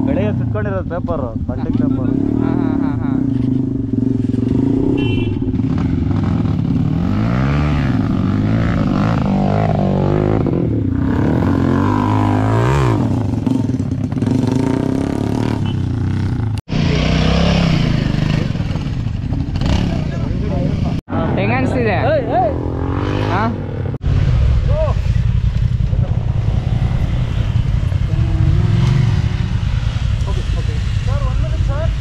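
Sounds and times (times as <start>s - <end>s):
dirt bike engine revving: 1.7s - 32.0s.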